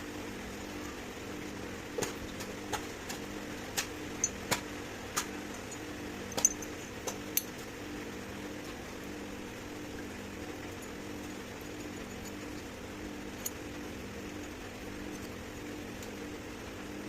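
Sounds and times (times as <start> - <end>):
machine hum with pulsing tone: 0.0 - 17.0.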